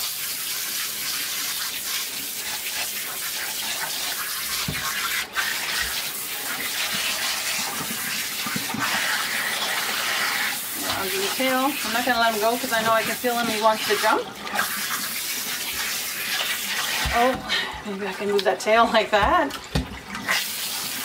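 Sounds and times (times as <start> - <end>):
shower sprayer running: 0.0 - 21.0
water splashing into bathtub: 0.0 - 21.0.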